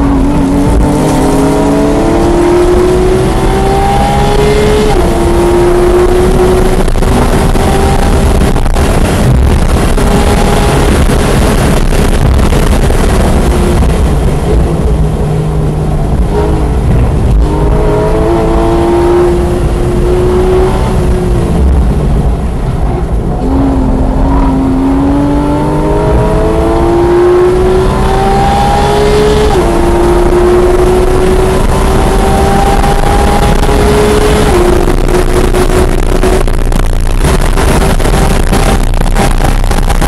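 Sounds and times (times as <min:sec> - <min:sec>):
car engine accelerating hard: 0:00.0 - 0:40.0
wind and road noise: 0:00.0 - 0:40.0.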